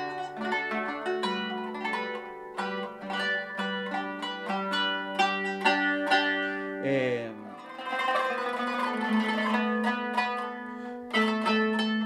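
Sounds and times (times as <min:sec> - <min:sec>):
plucked zither notes: 0:00.0 - 0:12.0.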